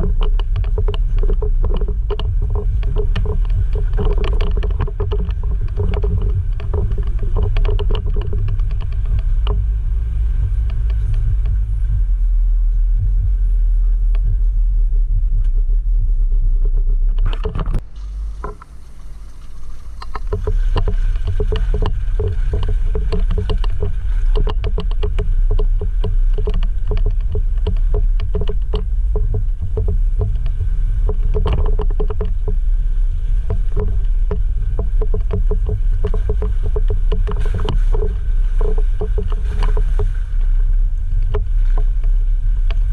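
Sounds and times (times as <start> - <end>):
rattling and knocking: 0.0 - 12.2, 20.0 - 42.9
engine and tyres rumbling: 0.0 - 42.9.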